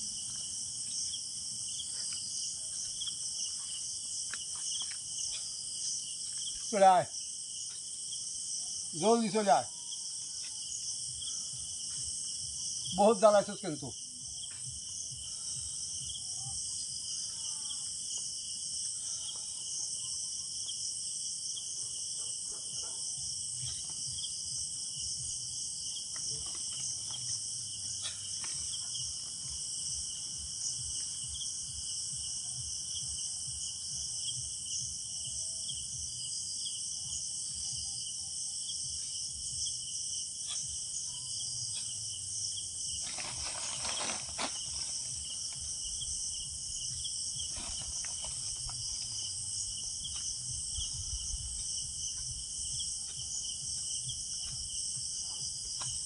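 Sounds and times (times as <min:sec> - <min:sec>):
crickets and insects chirring: 0:00.0 - 0:56.0.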